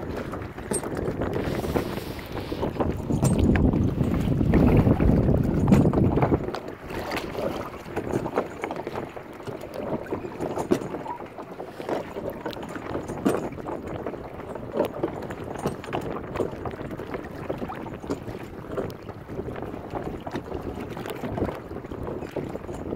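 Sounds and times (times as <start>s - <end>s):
water sloshing and splashing: 0.0s - 22.9s.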